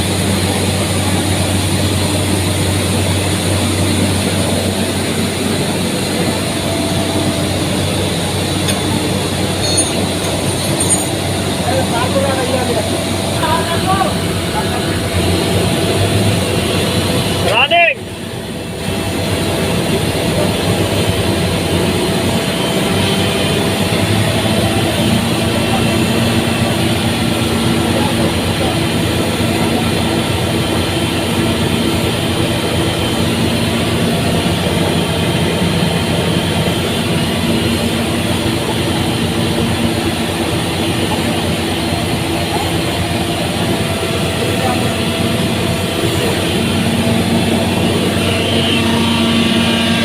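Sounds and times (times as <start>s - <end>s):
air compressor running: 0.0s - 50.0s.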